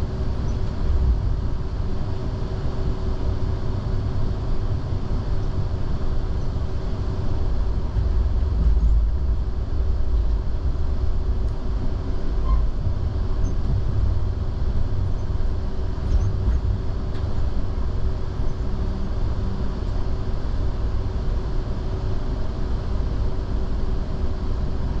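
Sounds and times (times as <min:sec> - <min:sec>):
train rumbling: 0:00.0 - 0:23.3
constant hum: 0:00.0 - 0:25.0.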